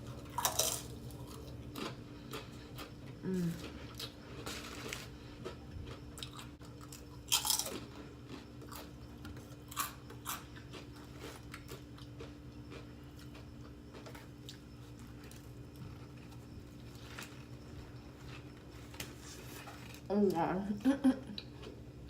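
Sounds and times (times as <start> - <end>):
crunchy sandwich bites: 0.0 - 20.1
steady low hum: 0.0 - 22.0.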